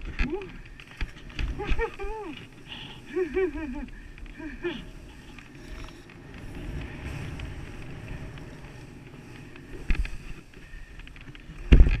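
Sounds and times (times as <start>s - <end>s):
wind rumbling on microphone: 0.0s - 12.0s
skis hissing over snow: 0.6s - 12.0s.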